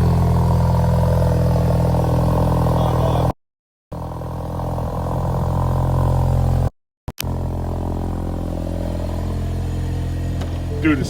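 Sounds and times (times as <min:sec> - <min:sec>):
car engine idling: 0:00.0 - 0:03.3, 0:03.9 - 0:11.0.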